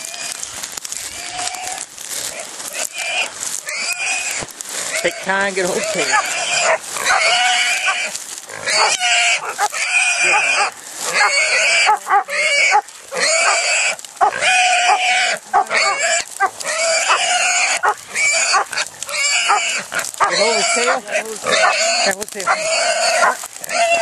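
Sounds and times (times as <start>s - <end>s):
hog squealing loudly: 1.0s - 24.0s.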